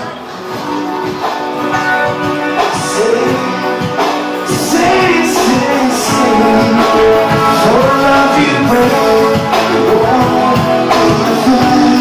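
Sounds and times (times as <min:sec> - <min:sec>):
drums: 0:00.0 - 0:12.0
electric guitars: 0:00.0 - 0:12.0
singer: 0:01.7 - 0:12.0.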